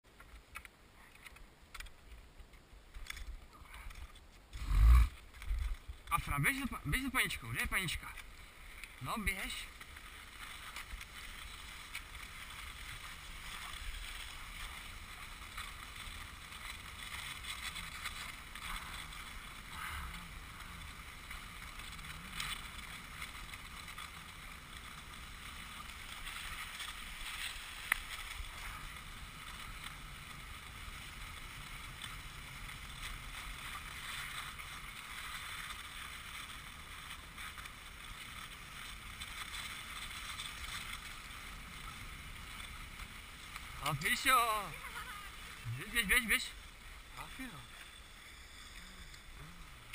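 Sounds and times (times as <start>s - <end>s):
skis scraping over snow: 0.1s - 49.9s.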